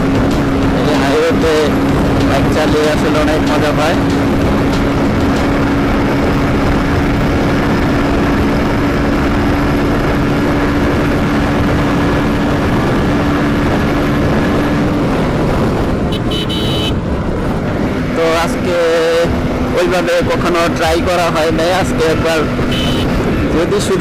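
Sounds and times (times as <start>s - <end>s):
motorcycle engine running: 0.0s - 24.0s
wind rush on microphone: 0.0s - 24.0s.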